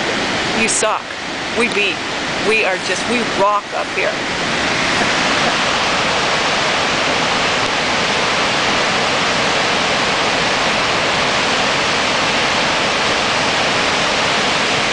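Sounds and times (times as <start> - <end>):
water rushing: 0.0 - 14.9.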